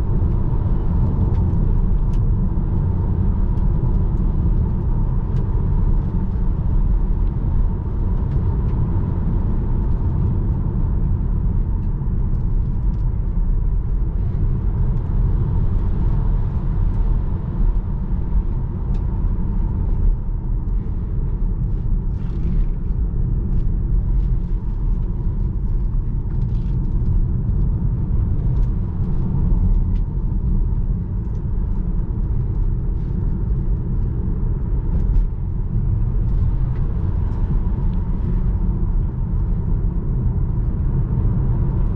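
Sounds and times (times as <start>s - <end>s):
tyre and road noise: 0.0s - 41.9s.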